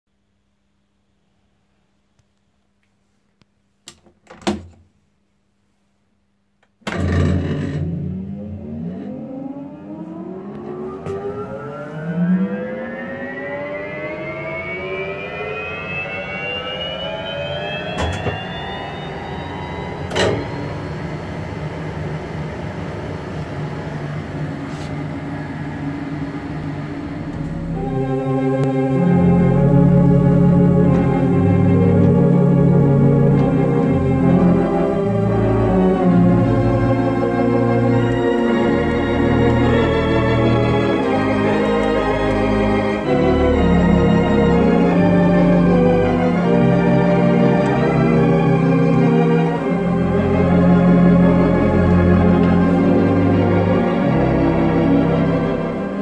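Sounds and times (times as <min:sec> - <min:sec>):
electric blower motor whine: 0:06.9 - 0:56.0.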